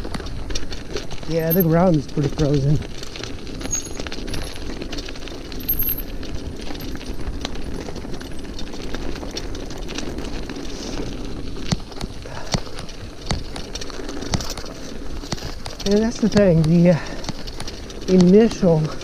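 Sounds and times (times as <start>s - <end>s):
bike rattling over bumps: 0.0s - 19.0s
bike tyres rumbling on hard ground: 0.0s - 19.0s.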